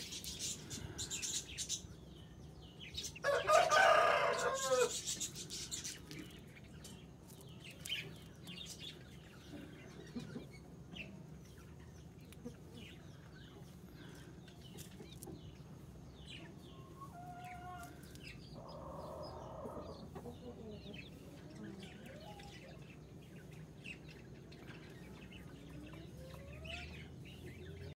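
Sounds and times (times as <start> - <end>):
chicks chirping: 0.0 - 28.0.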